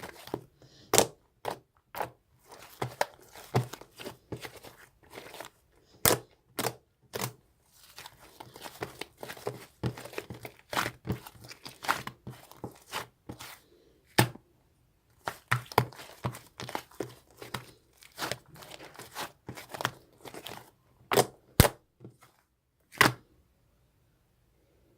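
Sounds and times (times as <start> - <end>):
crinkling and tapping: 0.0 - 13.6, 15.1 - 22.4.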